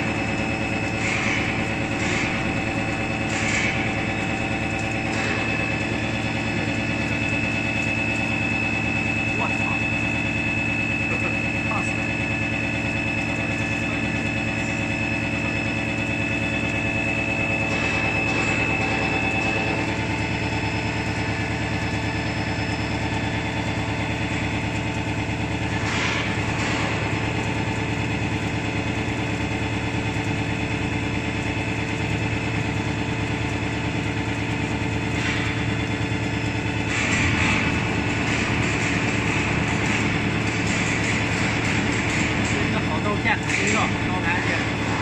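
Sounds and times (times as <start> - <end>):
milling machine humming: 0.0 - 45.0.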